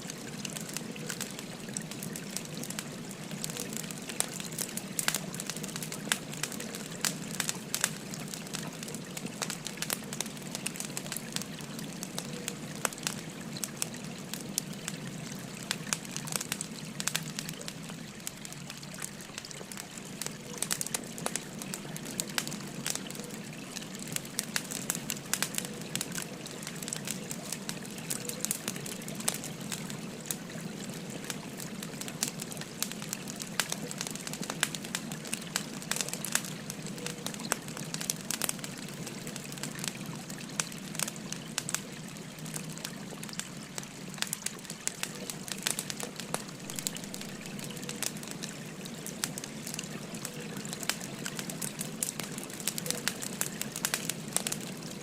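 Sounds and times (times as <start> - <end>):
babbling stream: 0.0 - 55.0
wood fire crackling and popping: 0.1 - 55.0.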